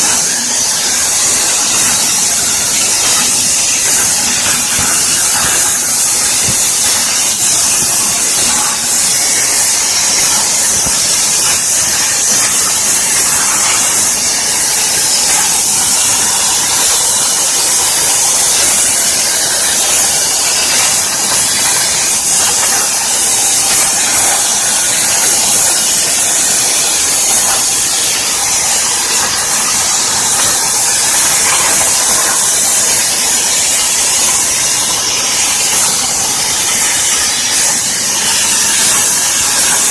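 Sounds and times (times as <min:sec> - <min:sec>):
plasma cutting torch hissing: 0:00.0 - 0:39.9.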